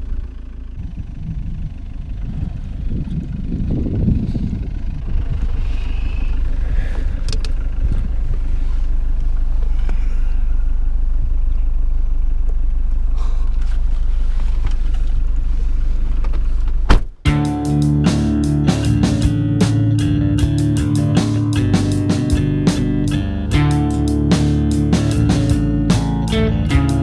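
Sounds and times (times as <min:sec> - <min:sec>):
car driving rumble: 0:00.0 - 0:27.0.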